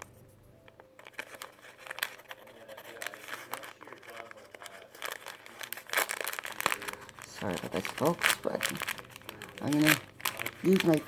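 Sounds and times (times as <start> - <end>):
packet crinkling and tearing: 0.9 - 11.0.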